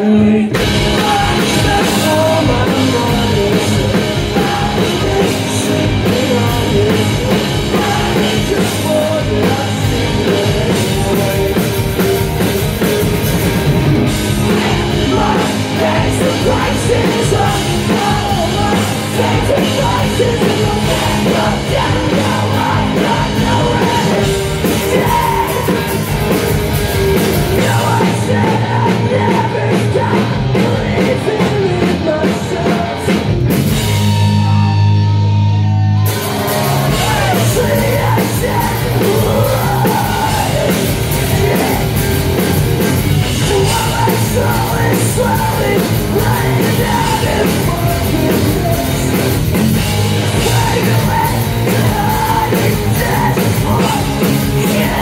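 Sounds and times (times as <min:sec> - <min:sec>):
sung and shouted vocals: 0:00.0 - 0:12.1, 0:14.0 - 0:26.3, 0:27.4 - 0:33.4, 0:35.6 - 0:55.0
bass guitar: 0:00.0 - 0:55.0
distorted electric guitars: 0:00.0 - 0:55.0
drum kit: 0:00.0 - 0:55.0.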